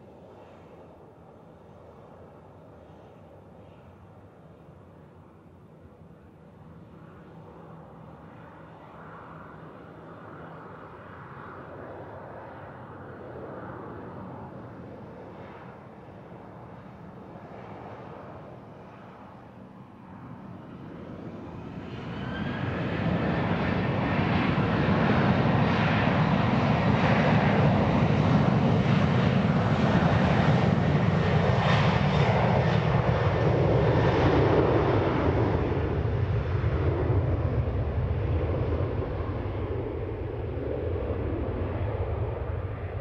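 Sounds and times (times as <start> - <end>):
jet engines roaring on takeoff: 0.0 - 43.0.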